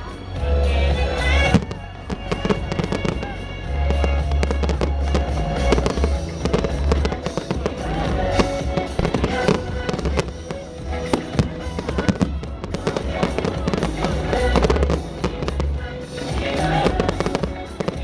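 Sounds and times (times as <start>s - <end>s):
fireworks bursting and crackling: 0.0s - 18.0s
loud music with heavy bass: 0.0s - 18.0s.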